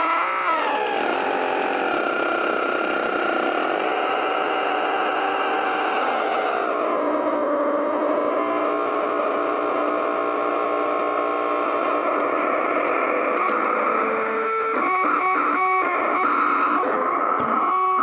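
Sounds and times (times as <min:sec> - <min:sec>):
distortion pedal feedback drone: 0:00.0 - 0:18.0.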